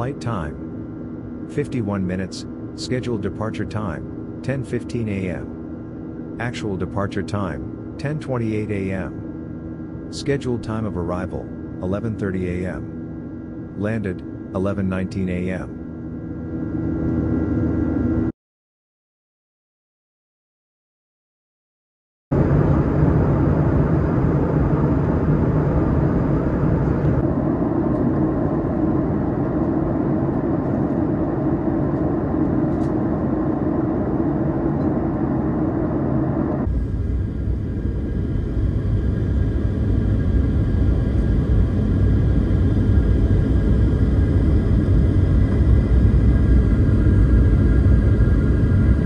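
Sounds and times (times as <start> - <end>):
jet aircraft cabin roar: 0.0 - 18.3, 22.3 - 49.0.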